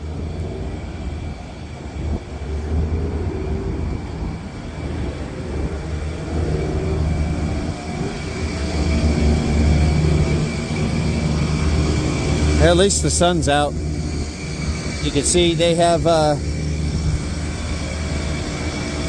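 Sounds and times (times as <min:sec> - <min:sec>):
air conditioning units droning: 0:00.0 - 0:19.0.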